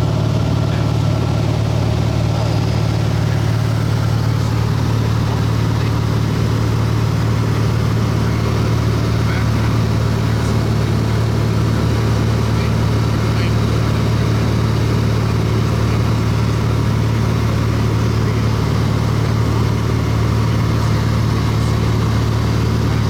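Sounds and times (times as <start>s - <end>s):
light aircraft engine droning: 0.0s - 23.0s.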